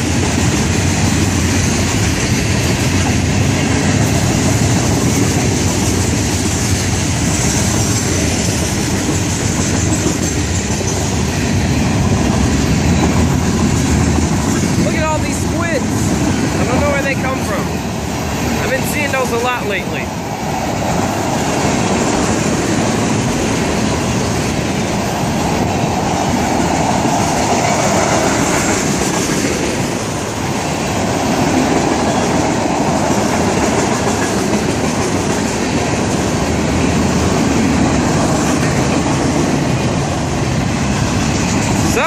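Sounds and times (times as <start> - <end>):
freight train rumbling past: 0.0 - 42.0.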